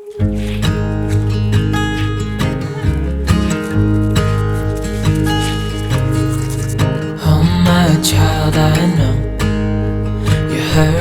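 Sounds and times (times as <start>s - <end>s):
acoustic guitar song: 0.0s - 11.0s.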